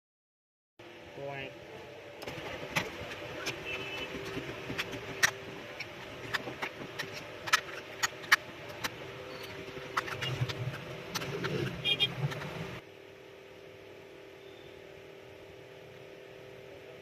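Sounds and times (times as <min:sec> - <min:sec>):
steady low hum: 0:00.8 - 0:17.0.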